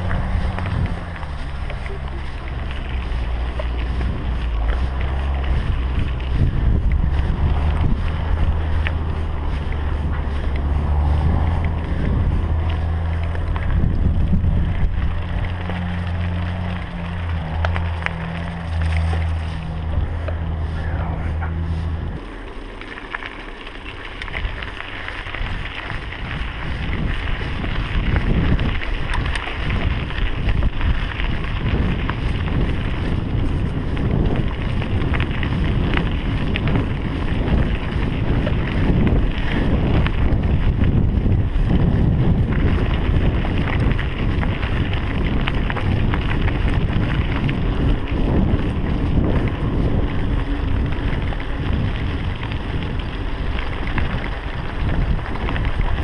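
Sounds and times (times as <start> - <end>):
bike rattling: 0.0 - 56.0
bike tyres rumbling on gravel: 0.0 - 56.0
wind buffeting microphone: 0.0 - 56.0.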